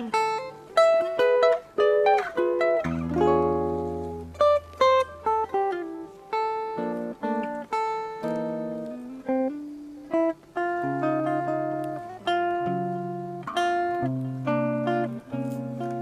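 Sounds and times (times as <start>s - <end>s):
jazz guitar playing: 0.0s - 16.0s.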